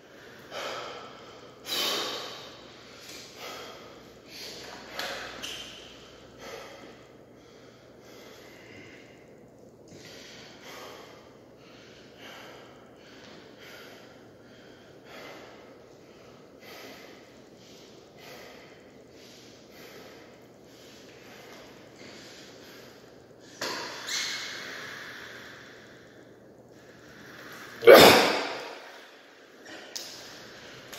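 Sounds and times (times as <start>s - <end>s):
man breathing hard: 0.0s - 30.9s.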